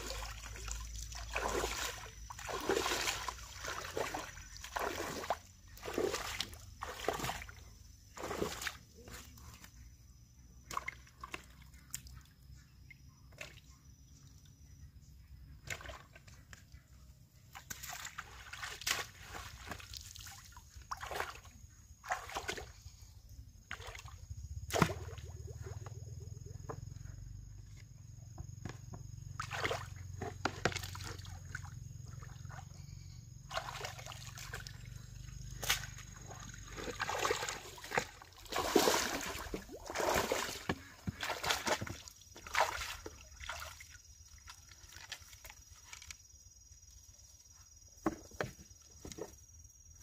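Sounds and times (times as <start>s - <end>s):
water sloshing and splashing: 0.0s - 9.9s, 10.6s - 12.3s, 15.6s - 16.6s, 17.5s - 46.4s.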